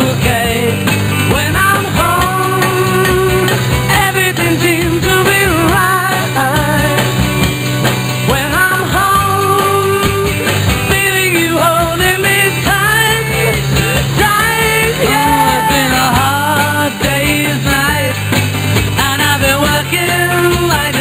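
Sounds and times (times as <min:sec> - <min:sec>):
rock and roll song: 0:00.0 - 0:21.0.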